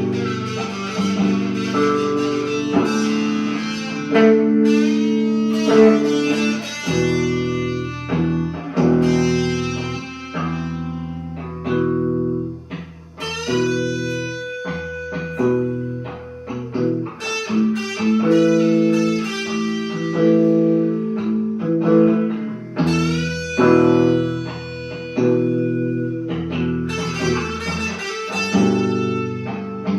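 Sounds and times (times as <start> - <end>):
blues guitar playing: 0.0 - 29.9.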